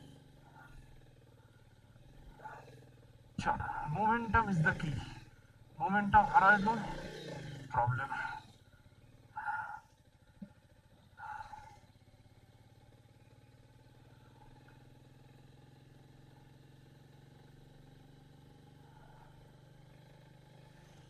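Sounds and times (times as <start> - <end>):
motorcycle engine running faintly: 0.0 - 21.0.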